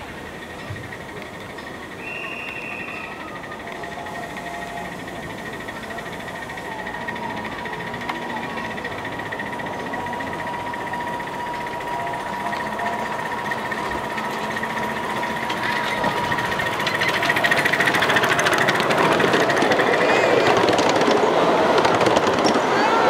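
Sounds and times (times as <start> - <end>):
miniature train clattering on track: 0.0 - 23.0.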